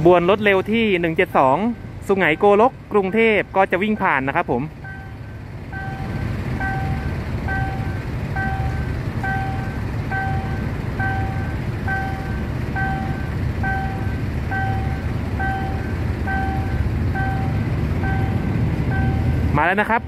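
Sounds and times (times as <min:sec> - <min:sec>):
steady low rumble: 0:00.4 - 0:20.0
level crossing warning tone: 0:01.2 - 0:20.0.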